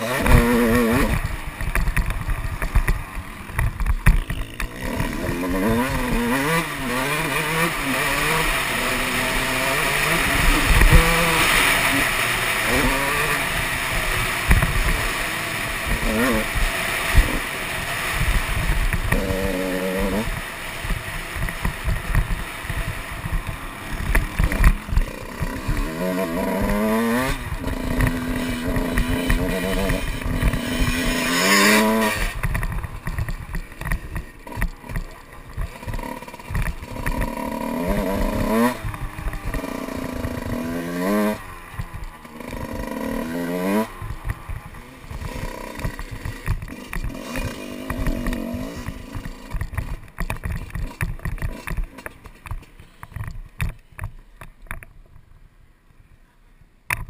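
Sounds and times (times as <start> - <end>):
motocross bike engine revving: 0.0 - 53.8.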